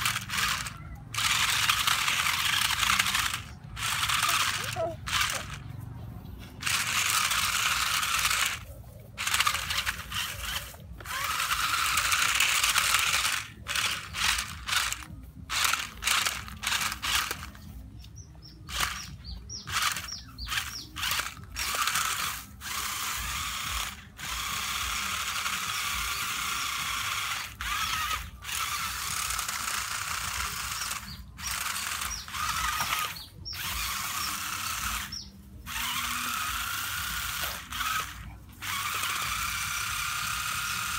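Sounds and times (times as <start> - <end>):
toy car motors whirring: 0.0 - 40.9.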